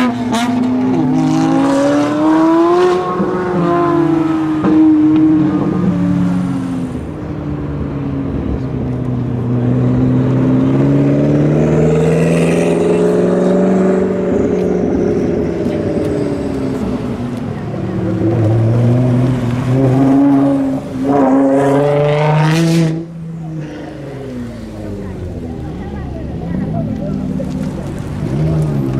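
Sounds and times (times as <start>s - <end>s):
car engine passing: 0.0s - 28.9s
car engine revving: 0.0s - 28.9s.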